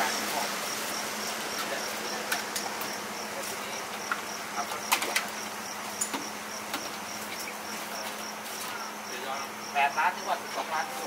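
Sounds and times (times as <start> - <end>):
insect chirping: 0.0 - 11.0.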